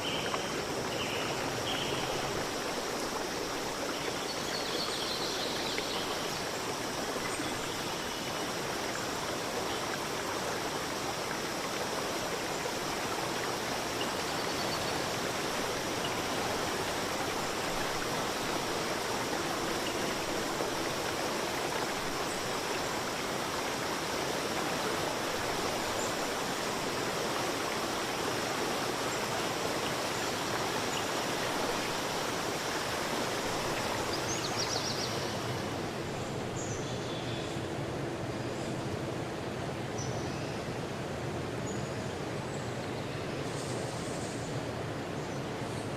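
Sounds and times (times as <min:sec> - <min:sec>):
river flowing over rocks: 0:00.0 - 0:37.0.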